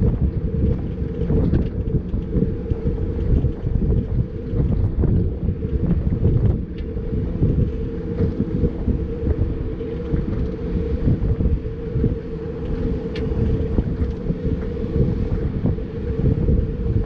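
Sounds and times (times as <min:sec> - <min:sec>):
car engine running under load: 0:00.0 - 0:17.0
road and wind rumble: 0:00.0 - 0:17.0.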